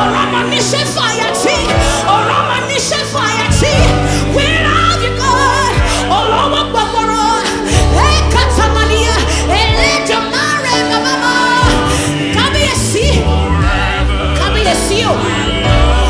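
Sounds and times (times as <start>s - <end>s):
backing singers: 0.0s - 16.0s
band playing: 0.0s - 16.0s
deep bass notes: 0.0s - 16.0s
woman singing lead: 0.0s - 16.0s.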